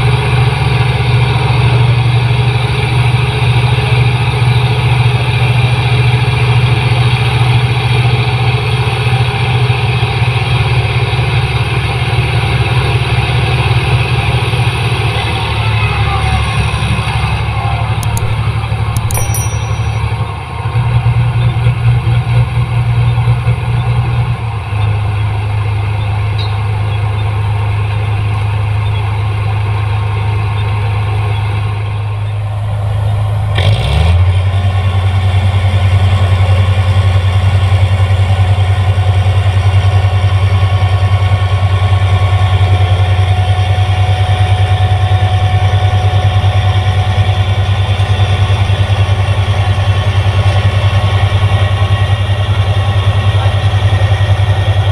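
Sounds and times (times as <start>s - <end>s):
combine harvester engine running: 0.0s - 54.9s.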